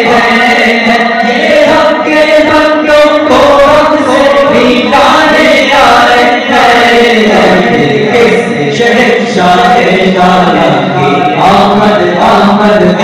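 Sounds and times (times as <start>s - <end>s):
men chanting into microphones: 0.0s - 13.0s.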